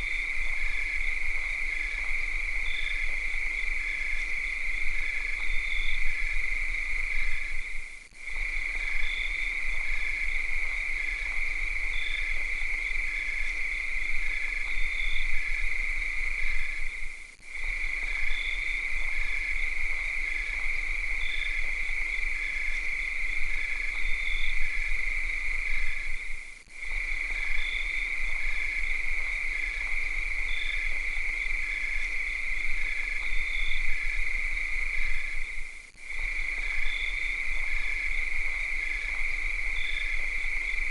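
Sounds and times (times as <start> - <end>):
cicada drone: 0.0 - 40.9.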